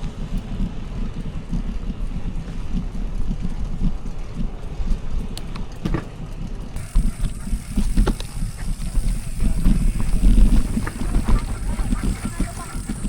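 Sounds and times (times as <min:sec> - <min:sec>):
bike clicks and rattles: 0:00.0 - 0:13.0
mountain bike rumble: 0:00.0 - 0:13.0
wind buffeting microphone: 0:00.0 - 0:13.0.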